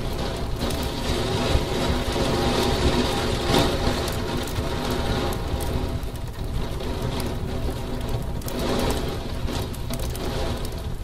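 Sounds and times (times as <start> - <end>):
heavy rain on a window: 0.0 - 11.0.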